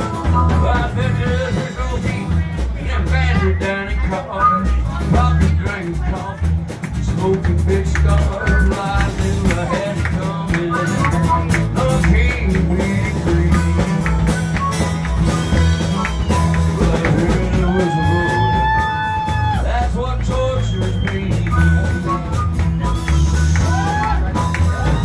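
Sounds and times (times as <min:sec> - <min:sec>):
man singing into a microphone: 0:00.0 - 0:14.2, 0:16.6 - 0:22.6
acoustic guitar strumming: 0:00.0 - 0:25.0.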